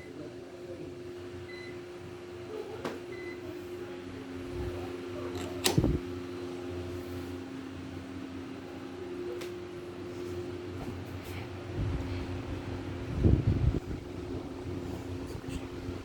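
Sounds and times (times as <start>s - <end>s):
ceiling fans humming: 0.0s - 16.0s.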